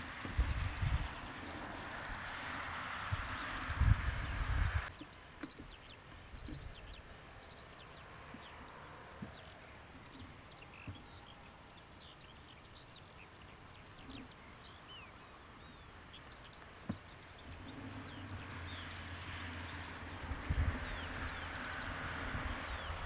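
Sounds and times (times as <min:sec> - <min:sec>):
faint birdsong: 0:00.0 - 0:23.0.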